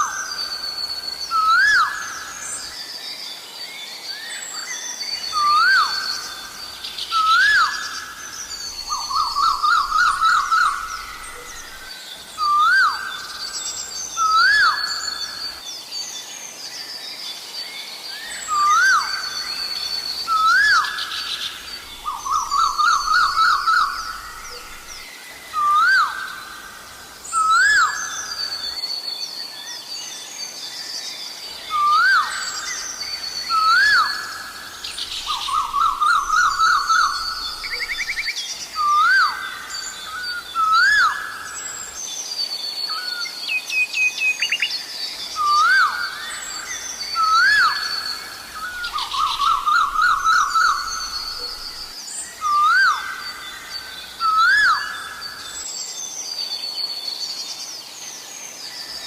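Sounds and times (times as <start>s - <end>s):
bird calling ko-el: 0.0s - 2.8s, 4.1s - 15.6s, 18.2s - 29.0s, 31.6s - 56.9s
small birds twittering: 0.0s - 59.0s.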